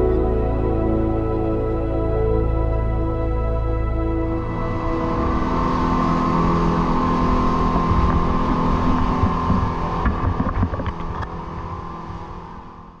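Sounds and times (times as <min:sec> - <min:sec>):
motorboat engine drone: 0:00.0 - 0:13.0
rushing wind and water: 0:00.0 - 0:13.0.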